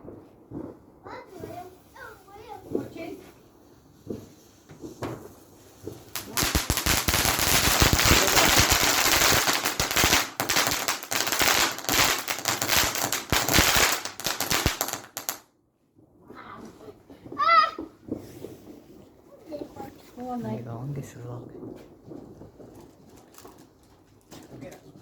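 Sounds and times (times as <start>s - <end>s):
firework crackling bangs: 0.0s - 15.5s, 16.2s - 25.0s.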